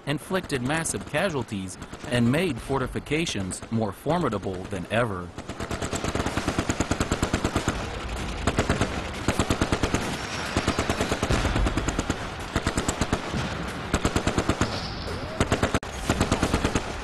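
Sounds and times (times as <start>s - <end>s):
machine-gun fire: 0.2s - 17.0s.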